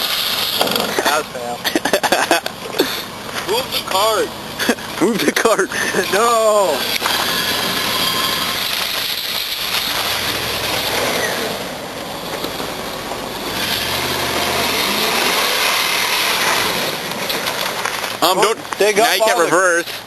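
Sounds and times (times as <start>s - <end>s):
truck engine under throttle: 0.0s - 20.0s
tyres spinning in gravel: 0.0s - 20.0s.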